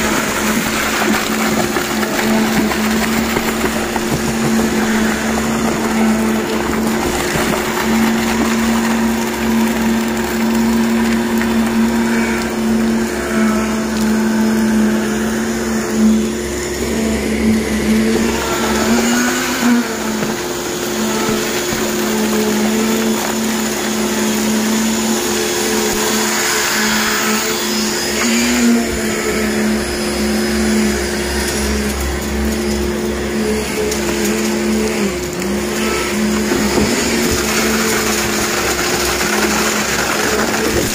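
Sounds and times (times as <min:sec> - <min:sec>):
concrete pump droning: 0:00.0 - 0:40.9.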